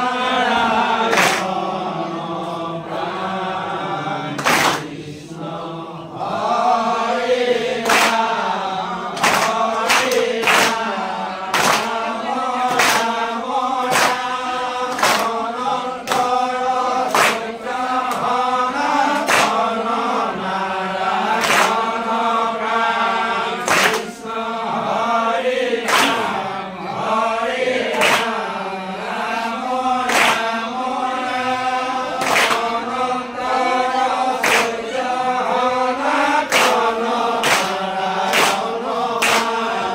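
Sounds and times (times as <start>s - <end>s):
hand claps keeping time: 0.0s - 5.4s, 6.1s - 39.9s
group chanting in unison: 0.0s - 39.9s.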